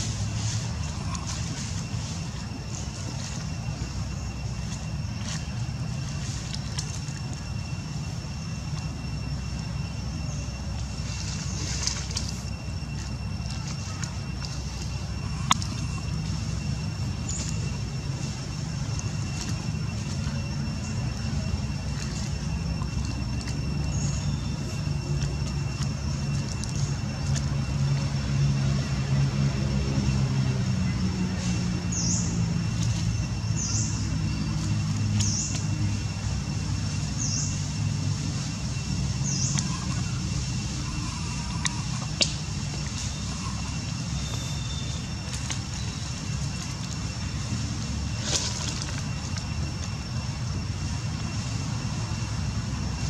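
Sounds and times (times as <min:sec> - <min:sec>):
high-pitched whine: 0:00.0 - 0:53.0
low background rumble: 0:00.0 - 0:53.0.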